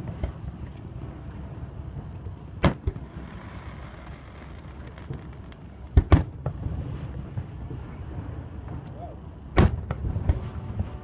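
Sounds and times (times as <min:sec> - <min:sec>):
fireworks booming: 0:00.0 - 0:11.0
low background noise: 0:00.0 - 0:11.0.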